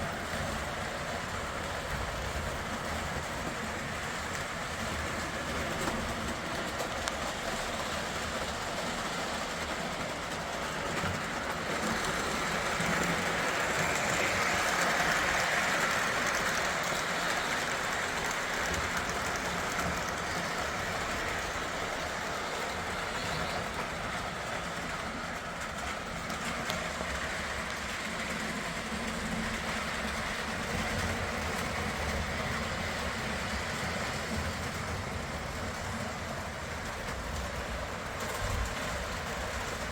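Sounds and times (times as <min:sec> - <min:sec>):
model train wheels clattering on rail: 0:00.0 - 0:39.9.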